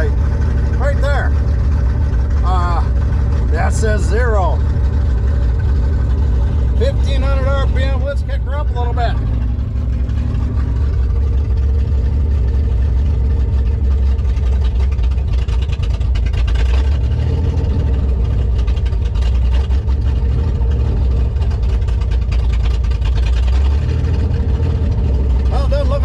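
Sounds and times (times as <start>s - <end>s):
engine running without exhaust: 0.0s - 26.0s.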